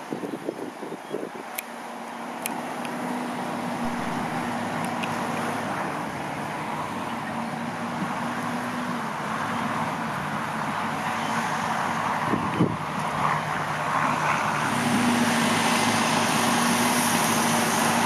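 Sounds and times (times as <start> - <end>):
tractor diesel engine running: 1.6 - 18.0.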